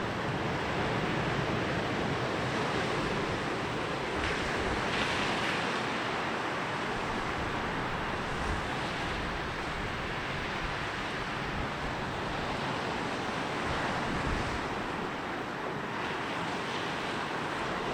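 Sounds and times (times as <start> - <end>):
sea waves washing up a beach: 0.0 - 17.9.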